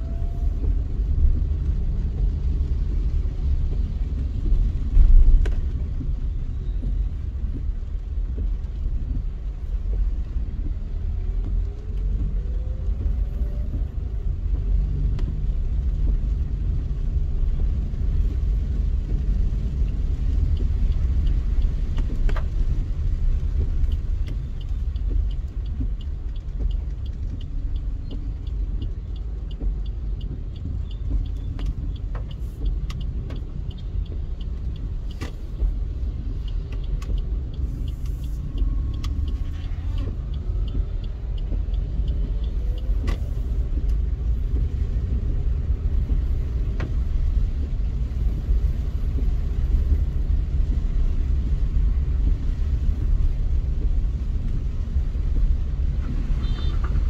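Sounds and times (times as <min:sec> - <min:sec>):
car engine and road noise: 0:00.0 - 0:57.0
light regular ticking: 0:00.0 - 0:57.0.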